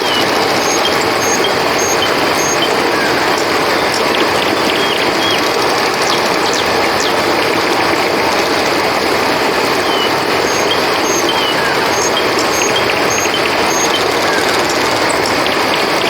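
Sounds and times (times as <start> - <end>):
gliding chirps: 0.0 - 7.2, 9.7 - 16.0
crickets chirping: 0.0 - 16.0
river water flowing: 0.0 - 16.0.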